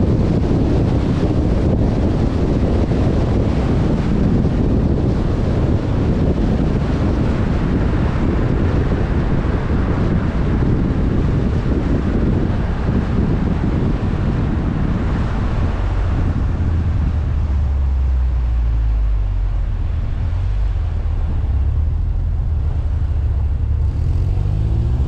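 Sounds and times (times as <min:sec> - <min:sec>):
car engine and road rumble: 0:00.0 - 0:25.0
wind buffeting microphone: 0:00.0 - 0:25.0.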